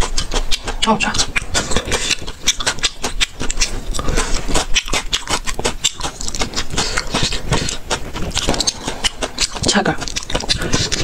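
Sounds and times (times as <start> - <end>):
wet chewing clicks and crunches: 0.0 - 11.0.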